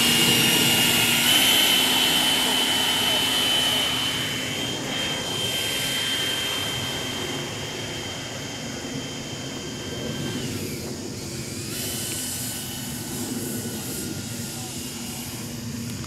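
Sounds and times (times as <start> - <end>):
electric ducted fan whine: 0.0 - 16.0.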